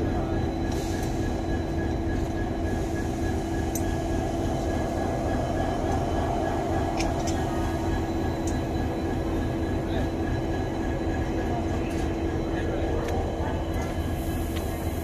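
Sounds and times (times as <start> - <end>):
constant hum: 0.0 - 15.0
locomotive engine idling: 0.0 - 15.0.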